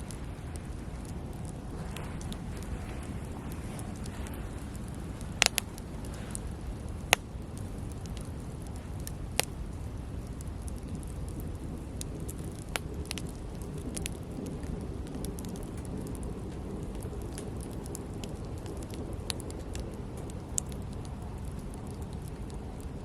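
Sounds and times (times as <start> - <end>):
campfire crackling and popping: 0.0 - 23.0
steady low rumble: 0.0 - 23.0.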